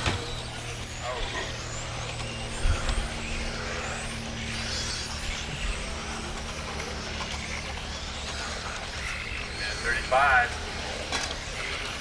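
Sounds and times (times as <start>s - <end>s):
high-pitched motor whine: 0.0s - 12.0s.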